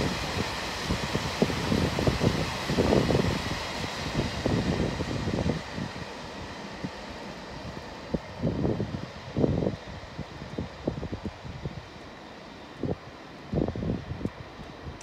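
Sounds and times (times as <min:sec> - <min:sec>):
wind buffeting microphone: 0:00.0 - 0:12.1, 0:12.7 - 0:15.0
freight train rumbling across bridge: 0:00.0 - 0:15.0.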